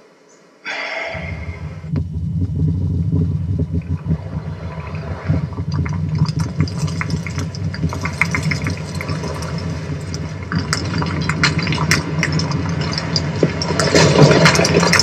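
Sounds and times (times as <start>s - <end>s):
low steady rumble: 1.0s - 15.0s
grit and stones falling: 1.4s - 15.0s.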